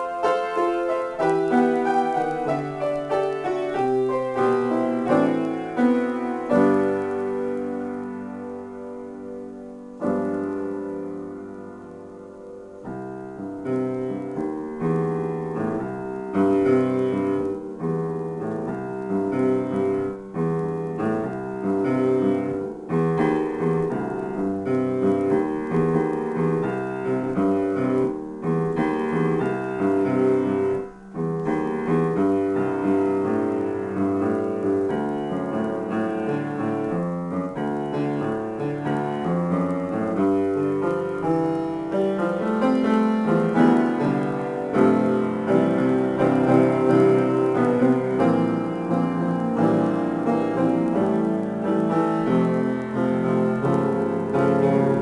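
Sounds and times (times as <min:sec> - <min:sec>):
grand piano improvisation: 0:00.0 - 0:55.0.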